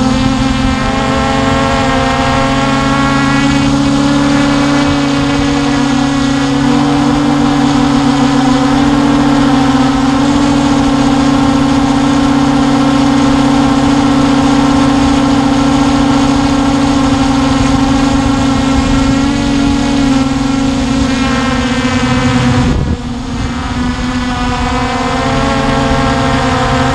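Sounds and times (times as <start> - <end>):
drone motors humming: 0.0 - 26.9.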